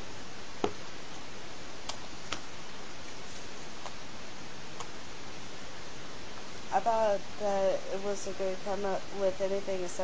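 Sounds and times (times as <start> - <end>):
phone microphone hiss: 0.0 - 10.0.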